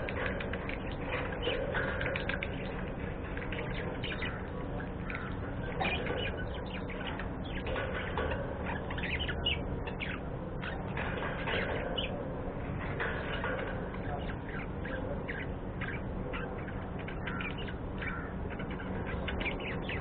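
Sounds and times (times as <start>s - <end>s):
budgies chirping and chattering: 0.0s - 20.0s.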